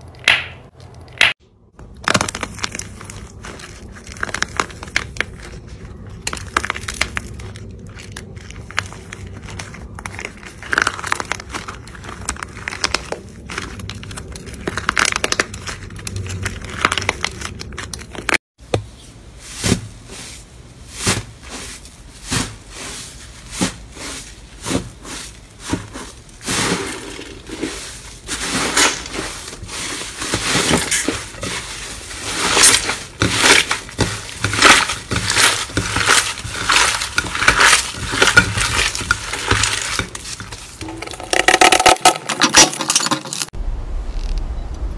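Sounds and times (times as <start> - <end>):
slime squelching and crackling: 0.0 - 18.4, 19.4 - 43.6
crunchy slime crackling: 0.2 - 18.4, 19.5 - 43.6.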